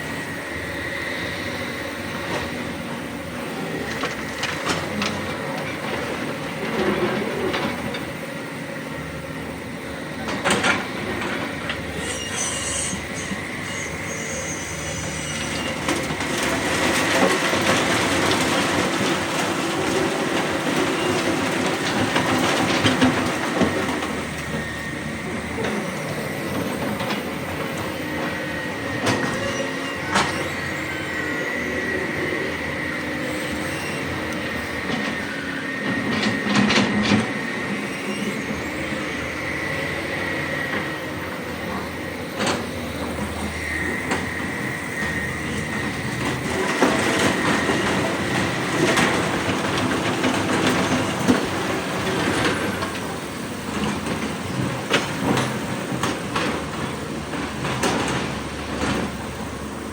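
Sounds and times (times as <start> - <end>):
excavator diesel engine with whine: 0.0 - 59.9.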